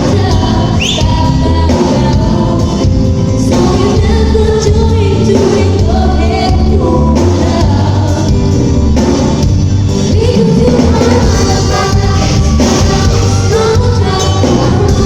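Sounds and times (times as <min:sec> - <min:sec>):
woman singing: 0:00.0 - 0:08.6, 0:10.0 - 0:15.0
bass-heavy band playing: 0:00.0 - 0:15.0.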